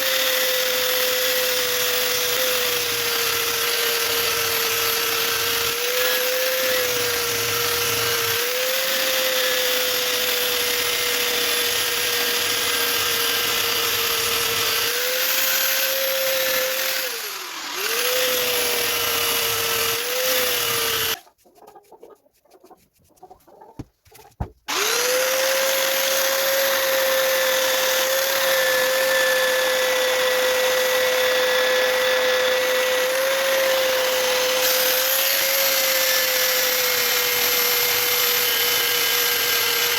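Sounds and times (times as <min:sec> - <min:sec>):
electric motor high whine: 0:03.2 - 0:21.2, 0:24.7 - 0:39.9.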